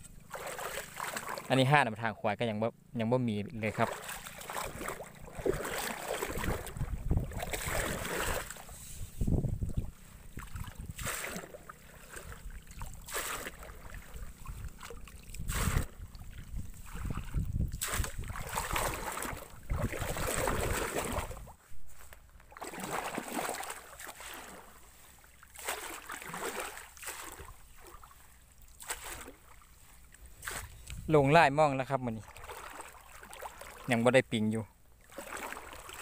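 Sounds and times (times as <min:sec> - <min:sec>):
muddy water sloshing and splashing: 0:00.0 - 0:02.4, 0:03.1 - 0:36.0.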